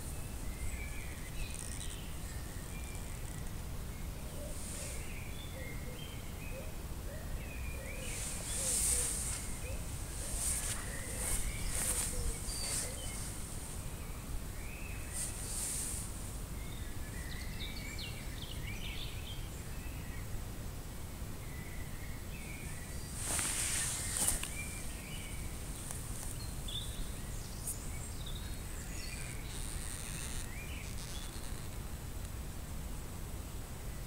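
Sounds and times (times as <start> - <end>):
rustling hiss: 0.0 - 34.0.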